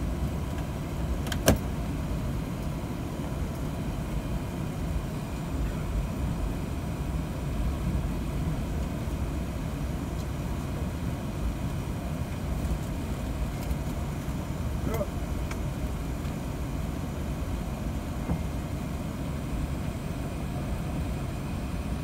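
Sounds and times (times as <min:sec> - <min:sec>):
aircraft cabin low rumble: 0:00.0 - 0:22.0.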